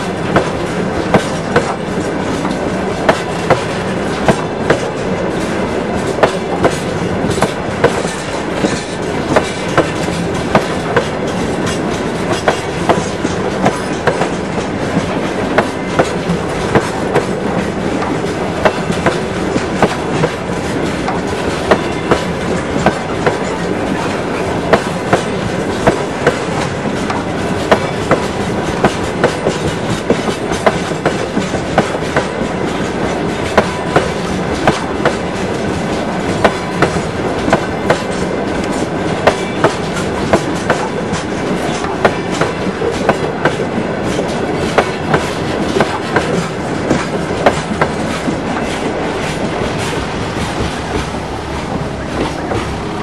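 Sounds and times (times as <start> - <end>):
train wheels clattering over rail joints: 0.0 - 53.0.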